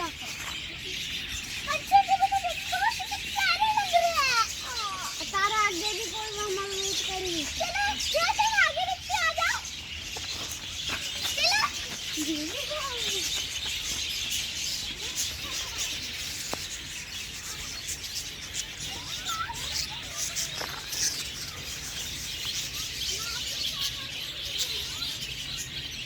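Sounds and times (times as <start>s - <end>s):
small birds chirping chorus: 0.0s - 26.0s.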